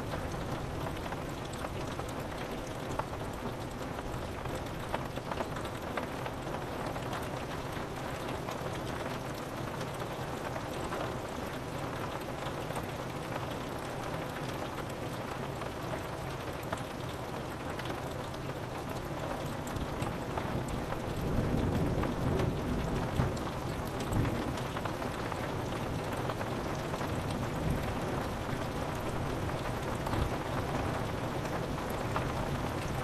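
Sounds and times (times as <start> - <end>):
rain falling: 0.0 - 33.0
raindrops hitting window pane: 0.0 - 33.0.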